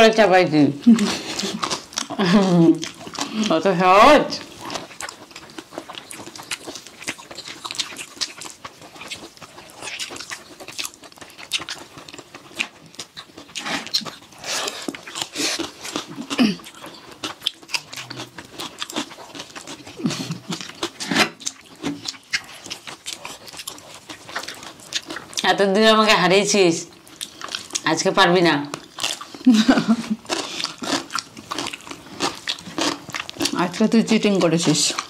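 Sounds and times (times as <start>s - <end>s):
people chewing and lip smacking: 0.8s - 25.5s, 26.9s - 27.9s, 28.6s - 35.0s.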